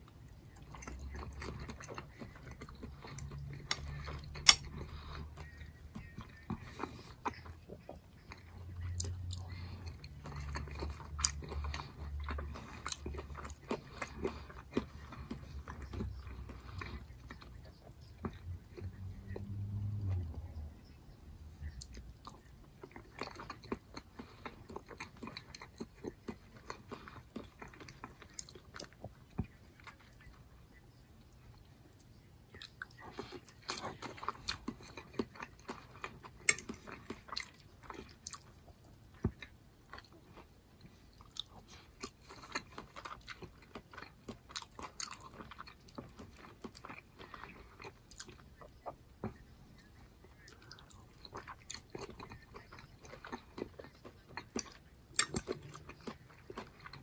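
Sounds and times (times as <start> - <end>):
person chewing soft food: 0.0 - 57.0.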